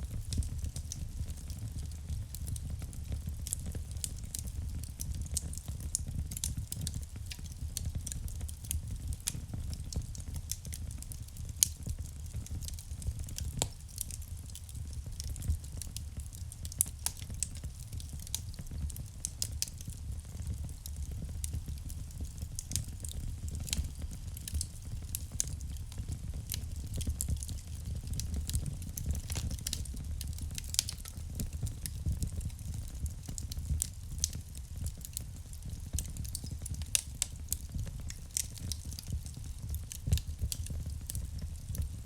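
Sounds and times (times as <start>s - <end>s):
low fire rumble: 0.0s - 42.0s
wood fire crackling: 0.0s - 42.0s.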